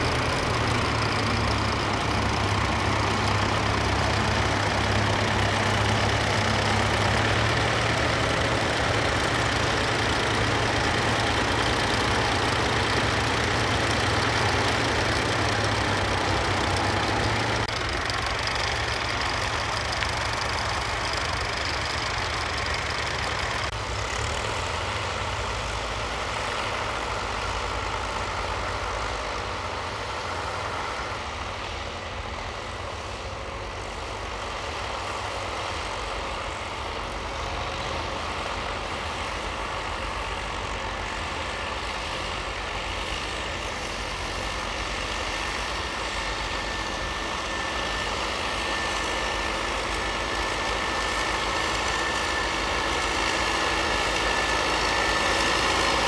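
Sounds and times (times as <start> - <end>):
tractor pulling cultivator: 0.0 - 31.8, 32.5 - 56.0
distant tractors working: 0.0 - 56.0
tractor engine pulling plough: 0.0 - 56.0.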